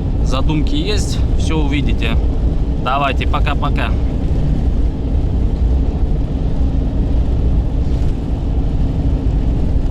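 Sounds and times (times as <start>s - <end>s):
car driving rumble from inside: 0.0s - 9.9s.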